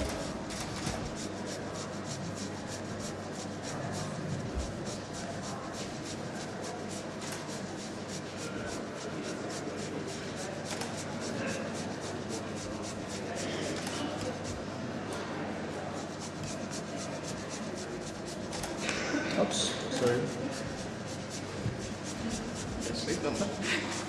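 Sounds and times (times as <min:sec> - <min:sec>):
potatoes grated on metal grater: 0:00.0 - 0:14.7, 0:15.8 - 0:24.0.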